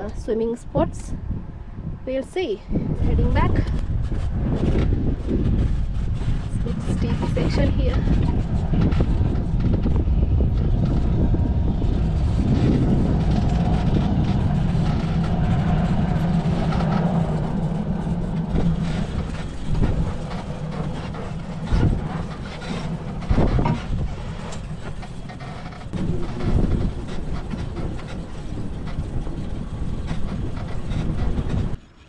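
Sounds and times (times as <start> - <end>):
low hum: 0.0 - 32.0
vehicle rumbling and rattling: 0.0 - 32.0
vehicle jolts: 3.9 - 32.0.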